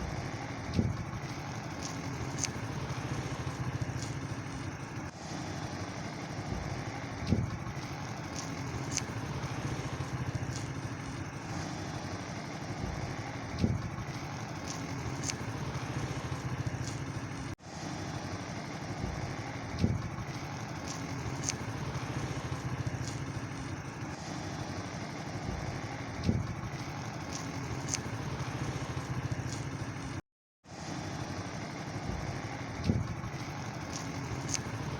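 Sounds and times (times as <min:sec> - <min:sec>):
engine humming: 0:00.0 - 0:30.2, 0:30.8 - 0:34.9.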